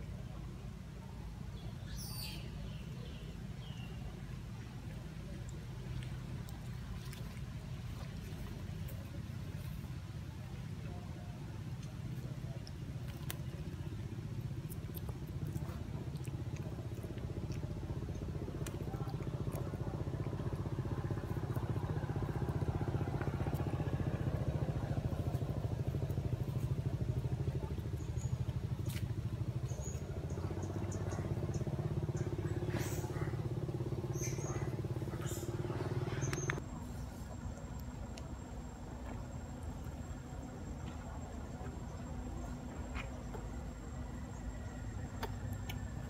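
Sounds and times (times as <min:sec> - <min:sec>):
motor engine humming: 0:02.6 - 0:46.0.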